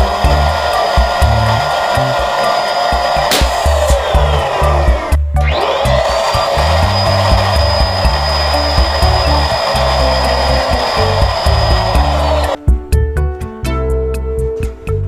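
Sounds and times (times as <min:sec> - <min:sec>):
balloon inflator whining: 0:00.0 - 0:12.6
background music: 0:00.0 - 0:15.0.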